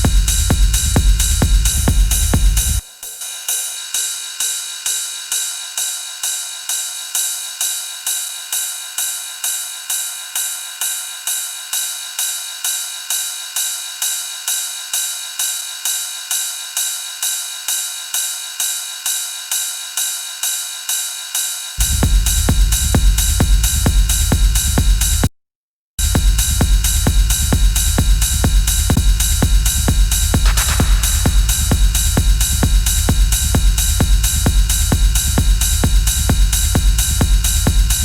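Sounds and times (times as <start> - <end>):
looping electronic hi-hat: 0.0 - 25.3, 26.0 - 38.0
techno track with kick and bass: 0.0 - 25.3, 26.0 - 38.0.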